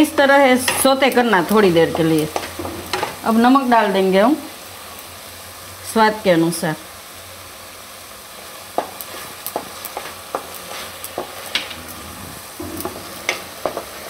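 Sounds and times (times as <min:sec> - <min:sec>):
tomato sizzling in oil: 0:00.0 - 0:14.0.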